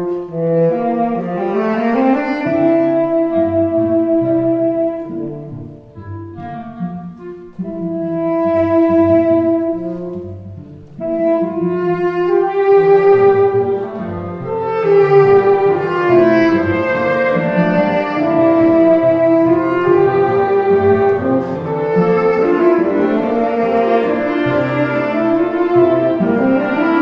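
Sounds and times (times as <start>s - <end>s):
chamber ensemble playing: 0.0s - 27.0s
tenor saxophone: 0.0s - 27.0s.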